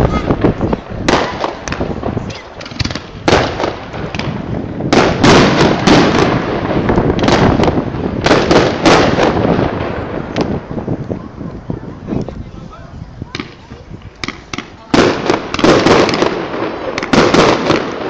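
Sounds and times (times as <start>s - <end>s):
firework shells bursting: 0.3s - 11.1s, 13.3s - 18.0s.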